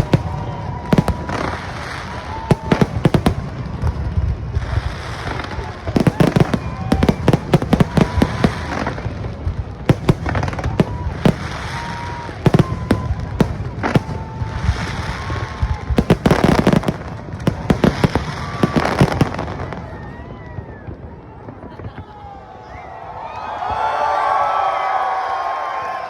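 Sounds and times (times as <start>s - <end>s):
fireworks crackling volleys: 0.0s - 22.8s.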